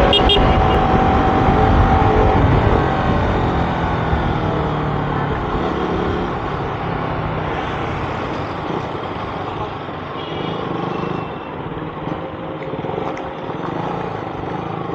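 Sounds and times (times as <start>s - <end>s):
motorcycle running: 0.0s - 14.9s
traffic noise: 0.0s - 14.9s.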